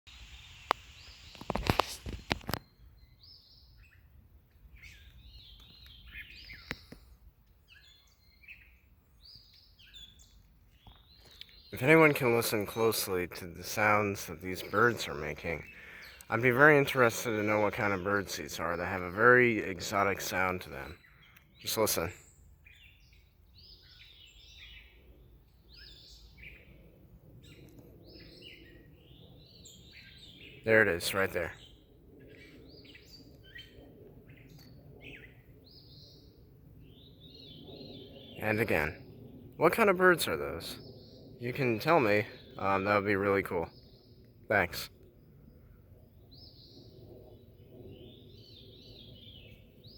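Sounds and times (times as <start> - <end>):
birds calling: 0.2 - 49.9.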